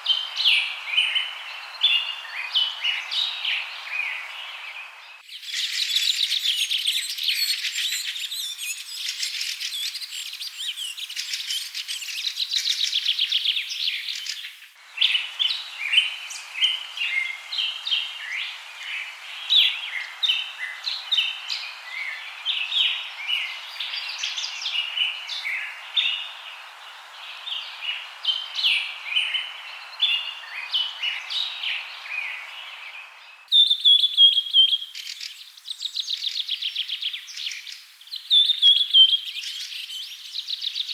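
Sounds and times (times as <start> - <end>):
soft hiss: 0.0 - 33.5
birds chirping and trilling: 0.0 - 40.9.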